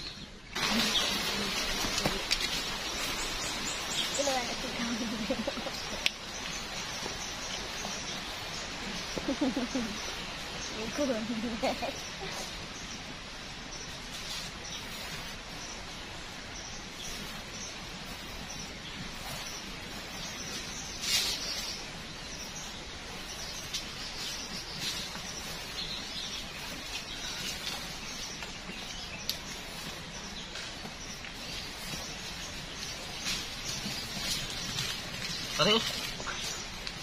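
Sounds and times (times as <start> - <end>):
birds calling: 0.0 - 37.0
steady background hiss: 0.0 - 37.0.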